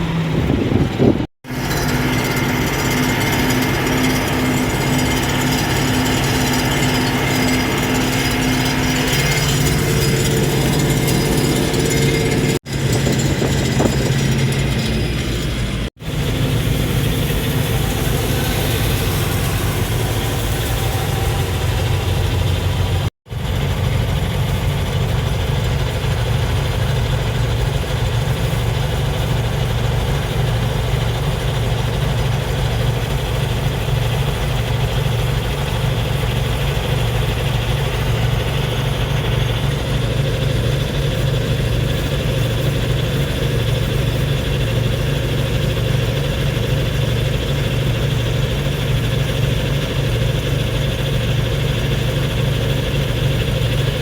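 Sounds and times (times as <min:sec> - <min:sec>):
combine harvester engine idling: 0:00.0 - 0:54.0.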